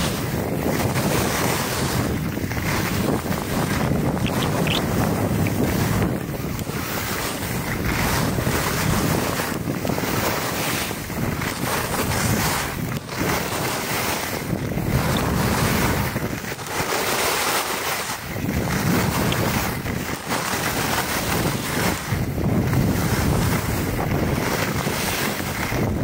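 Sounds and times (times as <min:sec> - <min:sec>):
skis hissing over snow: 0:00.0 - 0:22.2
wind rushing over microphone: 0:00.0 - 0:26.0.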